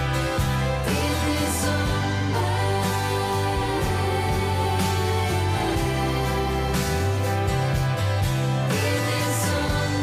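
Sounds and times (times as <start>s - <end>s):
live band with acoustic guitars: 0.0s - 10.0s.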